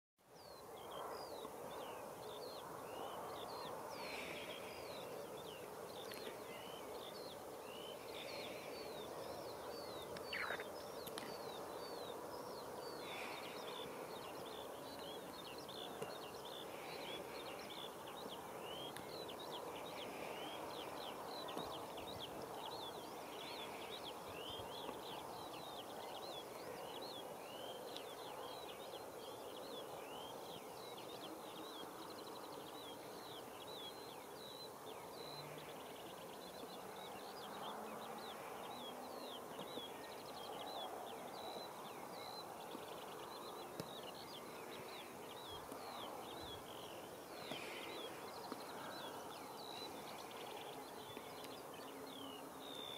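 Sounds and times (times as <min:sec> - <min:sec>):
small birds chirping: 0:00.3 - 0:52.9.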